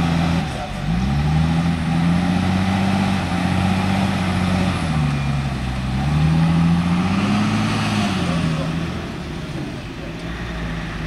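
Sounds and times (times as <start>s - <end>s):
heavy diesel tractor engine: 0.0s - 11.0s.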